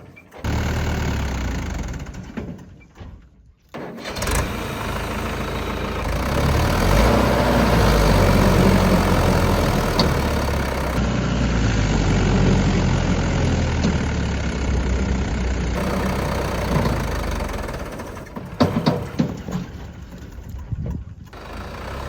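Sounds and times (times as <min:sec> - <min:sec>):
diesel tractor engine running: 0:00.0 - 0:03.2, 0:03.8 - 0:22.0.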